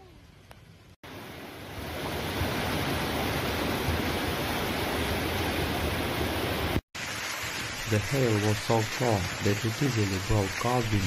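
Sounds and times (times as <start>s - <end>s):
floodwater rushing down street: 1.0s - 11.0s.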